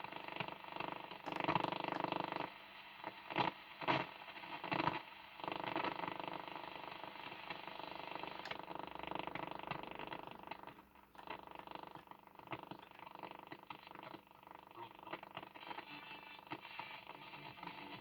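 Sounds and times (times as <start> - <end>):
buzzing radio interference with hum: 0.0 - 18.0
radio static crackles: 0.0 - 18.0.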